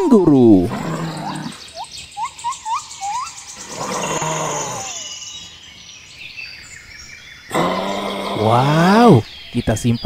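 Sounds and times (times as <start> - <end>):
birds chirping and twittering: 0.0 - 10.0.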